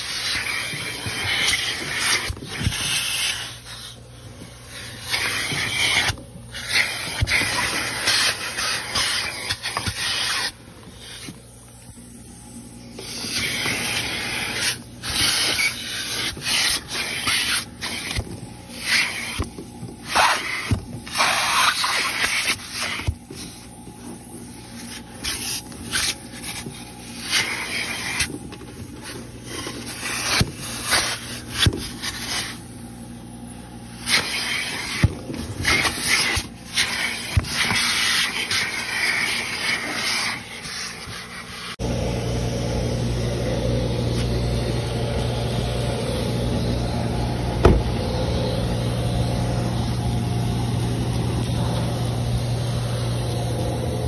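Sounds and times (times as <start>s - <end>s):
vacuum nozzle scraping carpet: 0.0s - 11.9s, 12.8s - 32.7s, 33.9s - 41.8s, 43.9s - 54.0s
vacuum motor hum: 0.0s - 54.0s.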